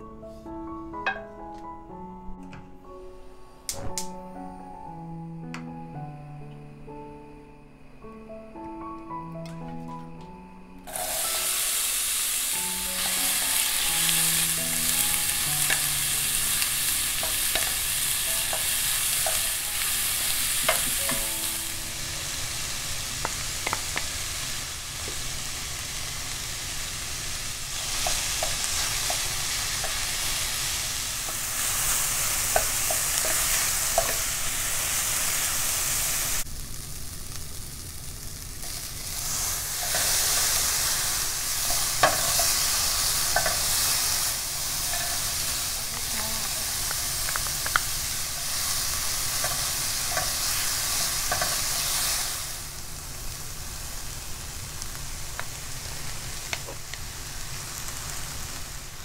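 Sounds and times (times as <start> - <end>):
vegetables sizzling in hot oil: 10.9 - 59.0.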